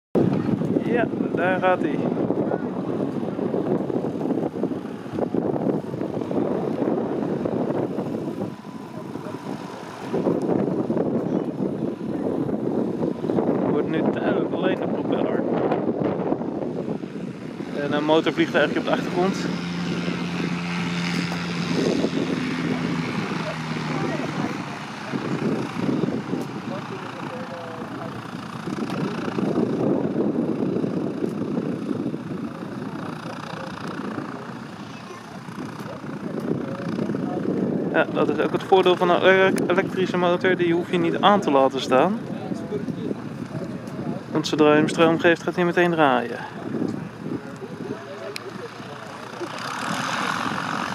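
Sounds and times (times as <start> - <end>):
low propeller noise: 0.1 - 50.9
wind buffeting microphone: 0.2 - 50.9.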